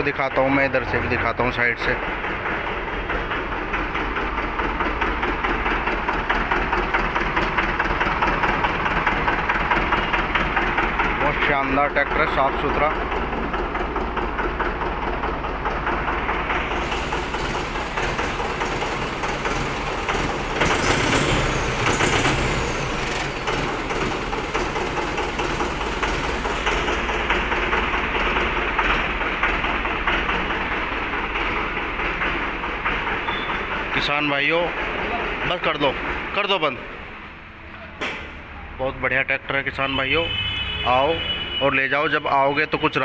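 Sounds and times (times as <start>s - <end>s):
tractor diesel engine idling: 0.0s - 43.0s.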